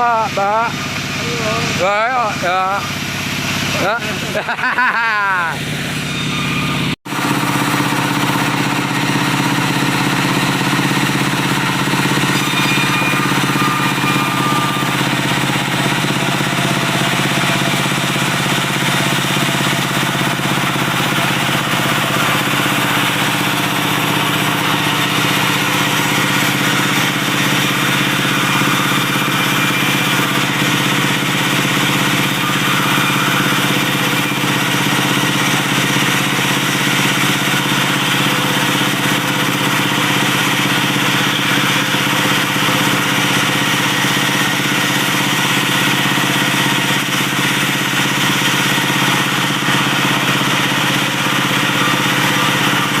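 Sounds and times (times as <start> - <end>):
diesel engine running steadily: 0.0 - 53.0.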